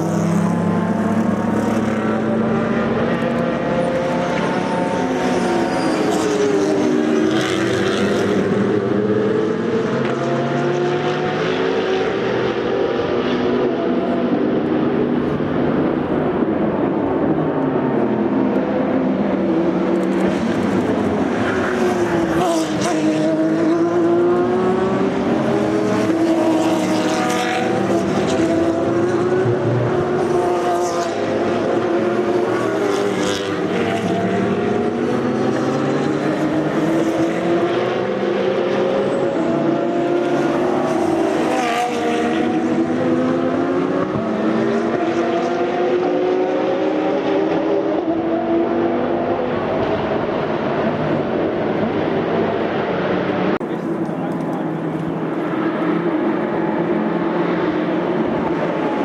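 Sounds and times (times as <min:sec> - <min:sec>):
racing cars passing at speed: 0:00.0 - 0:59.0.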